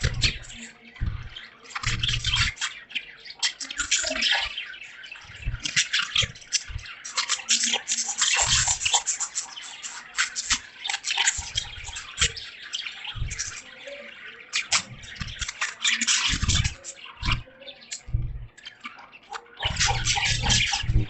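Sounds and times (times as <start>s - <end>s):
budgerigars chirping and chattering: 0.0s - 21.0s.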